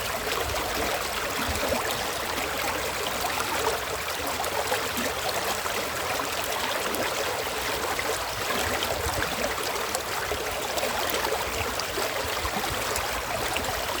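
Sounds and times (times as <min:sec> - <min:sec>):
stream babbling over stones: 0:00.0 - 0:14.0.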